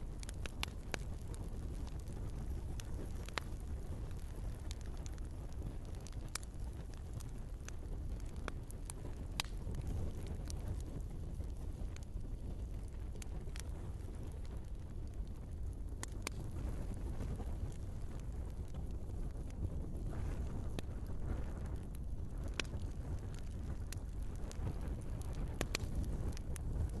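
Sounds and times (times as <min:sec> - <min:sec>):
burning logs crackling and popping: 0:00.0 - 0:27.0
low rumble of flames: 0:00.0 - 0:27.0.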